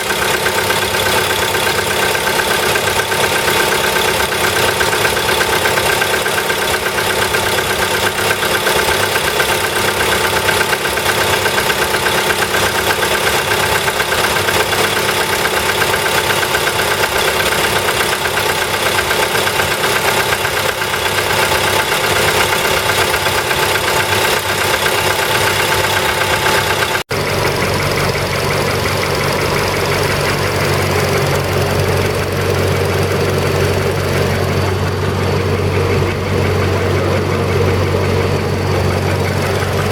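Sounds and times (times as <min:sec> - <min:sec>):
car engine idling with knocking: 0:00.0 - 0:39.9.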